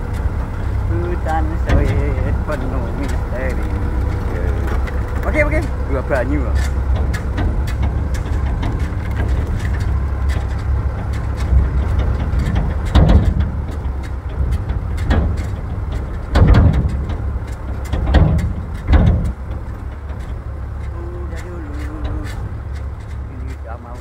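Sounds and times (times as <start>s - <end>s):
rattling clicks: 0.0s - 24.0s
vehicle rumble: 0.0s - 24.0s.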